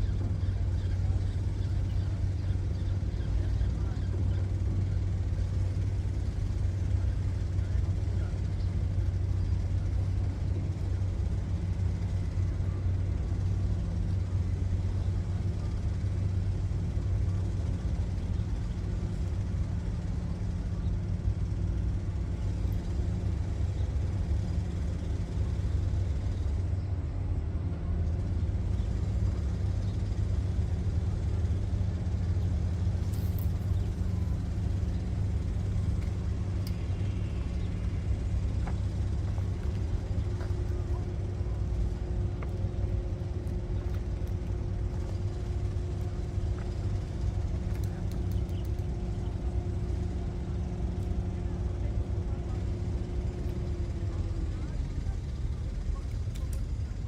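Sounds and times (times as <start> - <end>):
engine droning steadily: 0.0 - 57.0.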